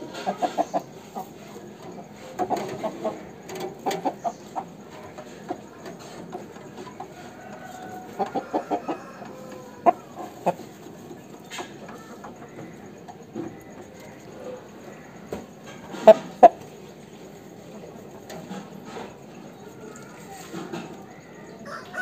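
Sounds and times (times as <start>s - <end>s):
rooster clucking: 0.0s - 19.3s, 20.3s - 22.0s.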